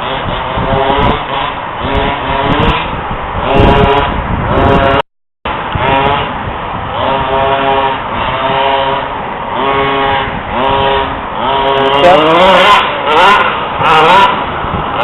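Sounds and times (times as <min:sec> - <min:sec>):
small two-stroke engine revving: 0:00.0 - 0:15.0.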